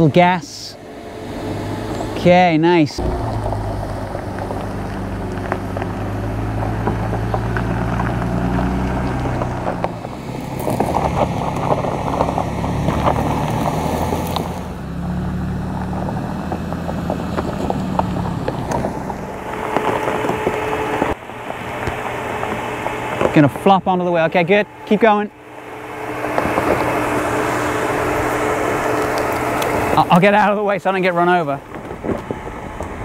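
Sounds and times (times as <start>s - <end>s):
truck engine at low revs: 0.0s - 33.0s
tyres crunching over gravel: 0.0s - 33.0s.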